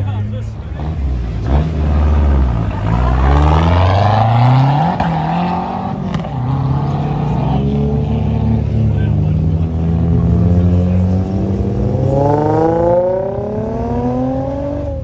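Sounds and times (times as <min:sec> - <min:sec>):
car engine accelerating: 0:00.1 - 0:15.0.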